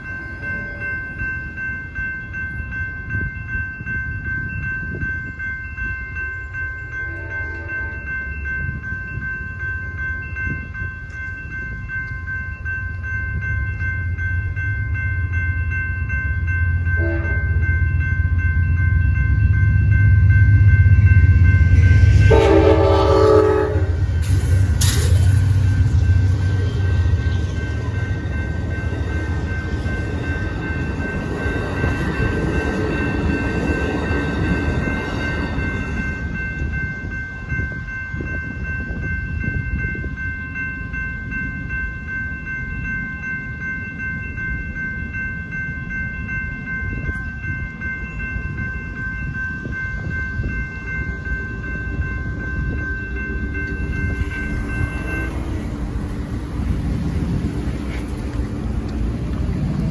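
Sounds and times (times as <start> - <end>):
electronic crossing bells ringing: 0.0 - 59.9
rail cars rumbling over crossing: 0.0 - 59.9.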